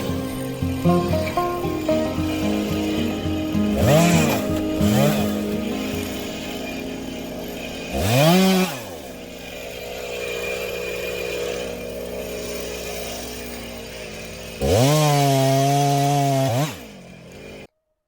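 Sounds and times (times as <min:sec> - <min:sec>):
chainsaw engine idling and revving: 0:00.0 - 0:17.7.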